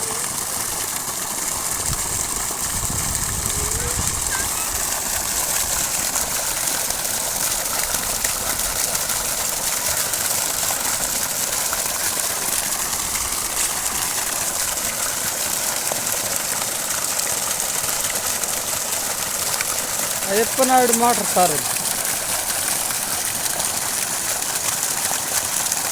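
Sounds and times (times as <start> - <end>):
water gushing: 0.0 - 25.9
water pump motor running: 0.0 - 25.9.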